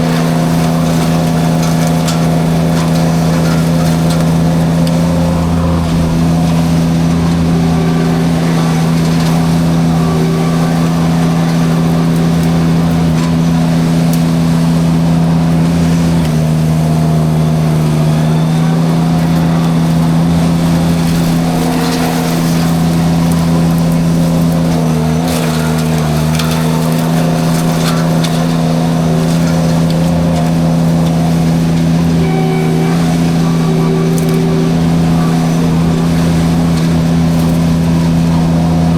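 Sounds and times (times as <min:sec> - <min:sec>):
brush and wood crackling: 0:00.0 - 0:38.9
forestry mulcher spinning: 0:00.0 - 0:38.9
skid steer engine running hard: 0:00.0 - 0:38.9.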